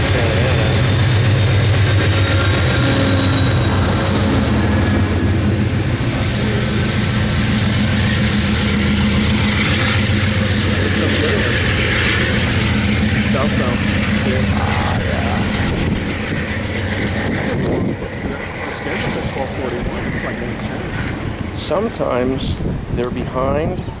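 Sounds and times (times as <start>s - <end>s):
diesel locomotive engine hum: 0.0s - 24.0s
rumbling train noise: 0.0s - 24.0s.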